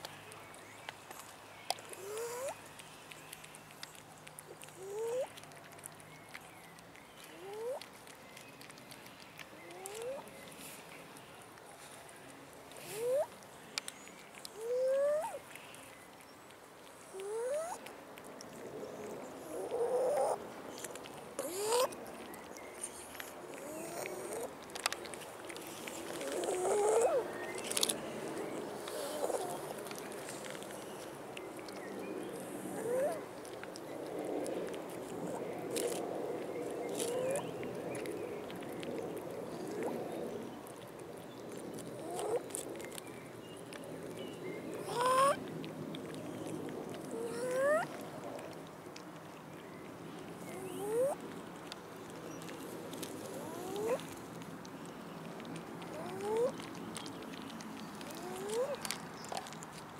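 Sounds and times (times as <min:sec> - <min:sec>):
cat chewing and lapping: 0:00.0 - 0:59.9.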